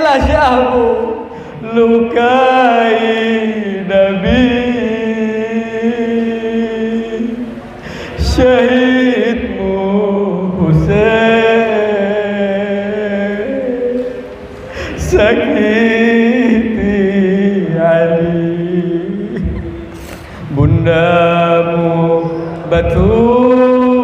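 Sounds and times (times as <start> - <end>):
man chanting into a microphone: 0.0 - 14.3, 14.9 - 24.0.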